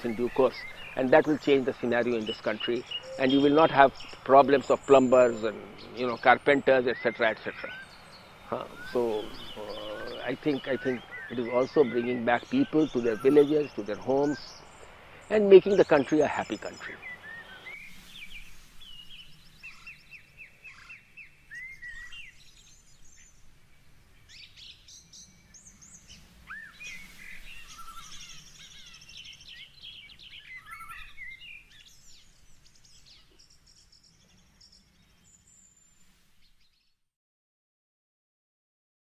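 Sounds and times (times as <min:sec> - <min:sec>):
low background noise: 0:00.0 - 0:36.4
birds chirping and whistling: 0:00.0 - 0:36.8.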